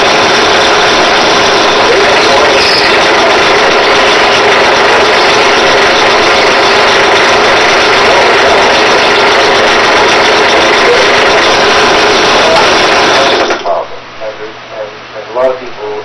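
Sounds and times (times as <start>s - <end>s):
file scraping spinning metal: 0.0s - 13.7s
drill press motor hum: 0.0s - 13.8s.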